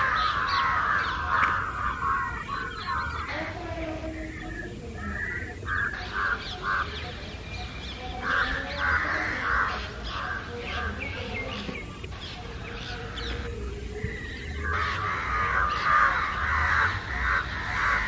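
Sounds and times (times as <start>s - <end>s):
crows cawing loudly: 0.0s - 18.0s
thin high bird calls: 0.0s - 18.0s.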